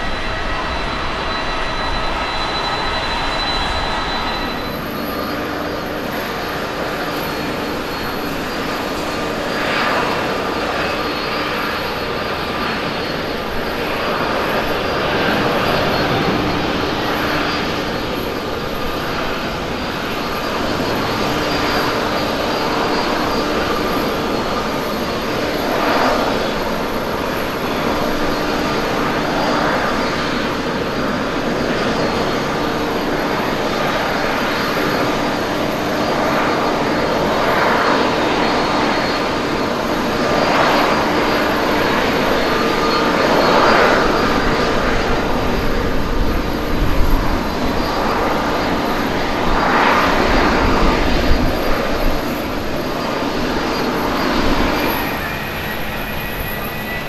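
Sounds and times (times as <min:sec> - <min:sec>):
jet engine roar at takeoff: 0:00.0 - 0:57.0.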